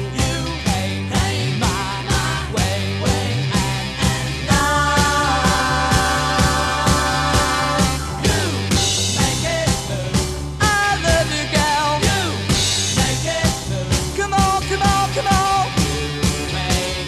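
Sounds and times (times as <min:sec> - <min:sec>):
people singing: 0:00.0 - 0:14.1, 0:14.8 - 0:17.0
bass: 0:00.0 - 0:17.0
drum beat: 0:00.0 - 0:17.0
guitar: 0:00.0 - 0:17.0.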